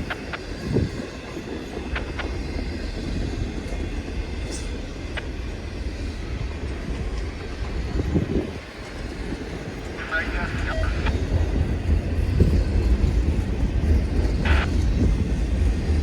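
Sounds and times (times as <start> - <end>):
freight train rumbling: 0.0 - 16.0
train wheel squeal: 0.0 - 16.0.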